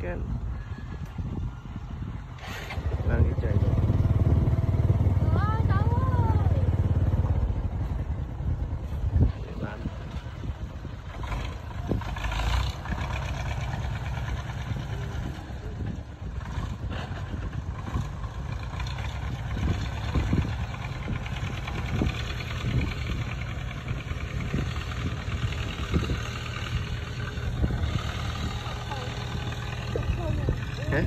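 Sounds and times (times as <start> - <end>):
heavy engines rumbling: 0.0 - 31.0.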